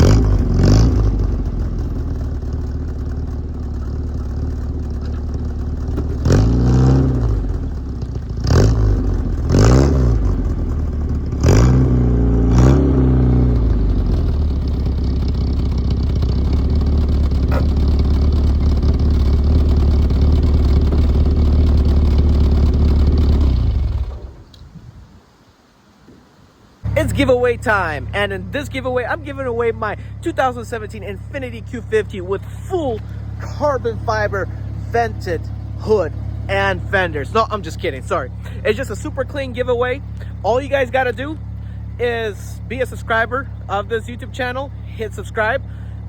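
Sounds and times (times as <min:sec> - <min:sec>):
car engine revving: 0:00.0 - 0:24.6, 0:26.8 - 0:46.0.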